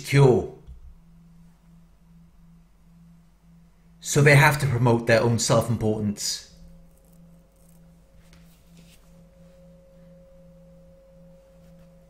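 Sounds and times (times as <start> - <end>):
high steady tone: 0.0 - 12.0
wavering low drone: 0.0 - 12.0.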